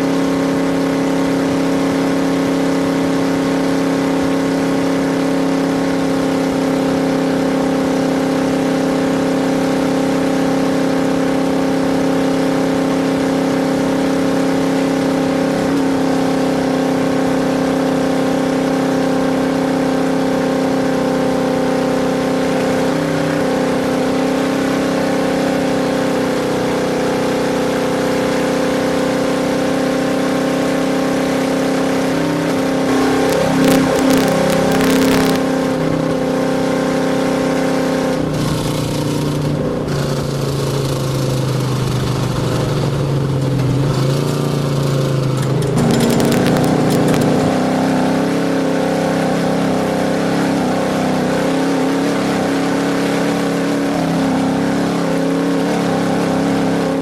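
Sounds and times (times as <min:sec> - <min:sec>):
vehicle engine running: 0:00.0 - 0:36.5, 0:37.2 - 0:57.0.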